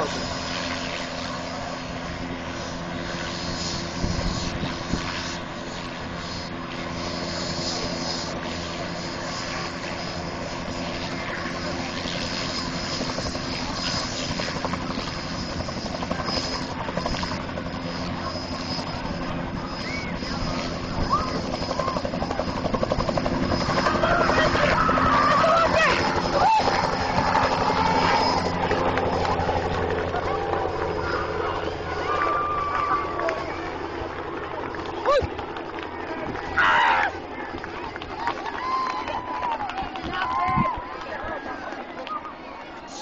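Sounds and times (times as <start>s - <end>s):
helicopter rotor beating: 0.0s - 43.0s
high turbine whine: 0.0s - 43.0s.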